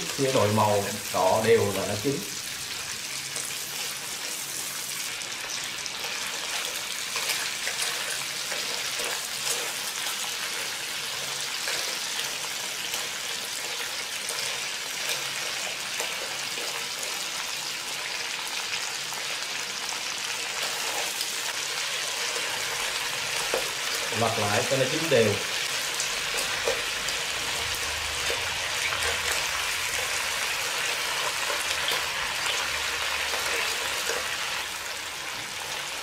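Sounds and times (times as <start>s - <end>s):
crab frying in a wok: 0.0s - 36.0s.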